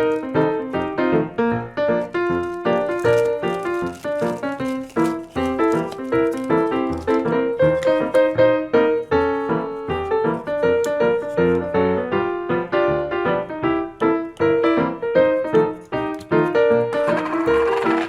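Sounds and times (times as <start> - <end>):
ragtime piano music: 0.0 - 18.0.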